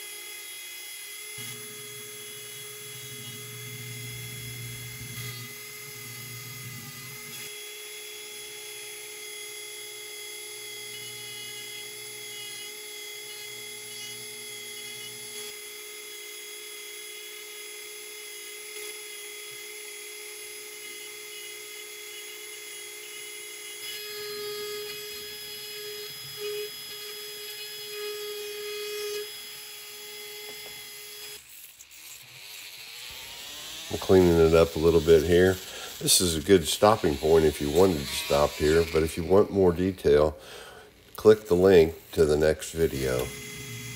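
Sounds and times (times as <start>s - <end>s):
rotary tool sanding wood: 0.0s - 43.9s.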